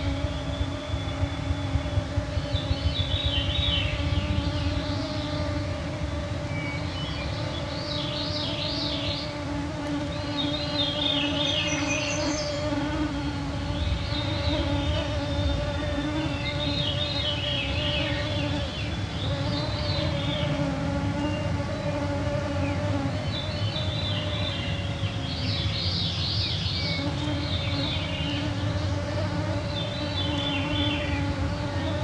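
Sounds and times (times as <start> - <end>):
mosquitoes whining: 0.0 - 32.0
songbirds singing: 0.0 - 32.0.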